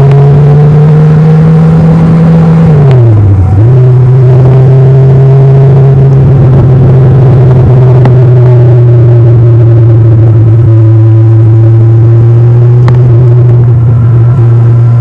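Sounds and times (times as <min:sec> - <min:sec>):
motorcycle engine and exhaust: 0:00.0 - 0:15.0.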